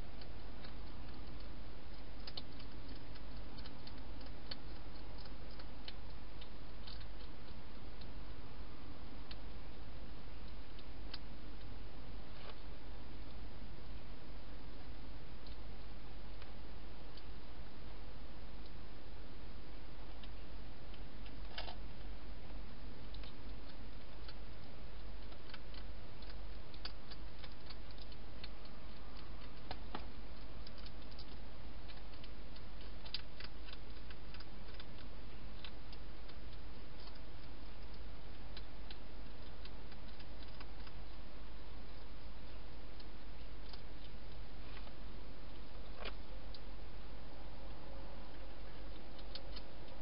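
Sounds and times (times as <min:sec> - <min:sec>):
hedgehog chewing: 0:00.0 - 0:50.0
steady low hum: 0:00.0 - 0:50.0.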